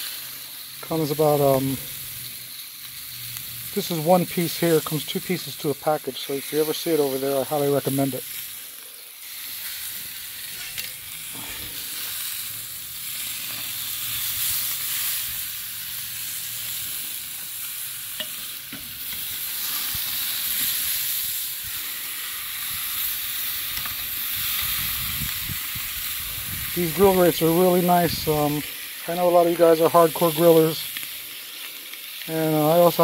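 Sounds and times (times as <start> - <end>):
steak sizzling on a grill: 0.0 - 33.0.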